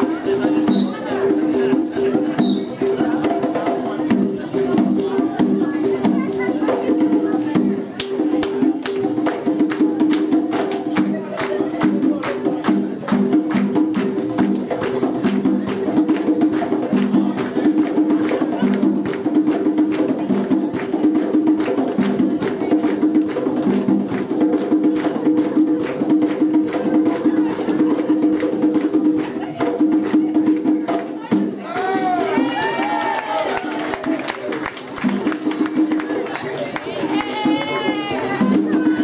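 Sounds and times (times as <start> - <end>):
drum and percussion music: 0.0 - 39.0.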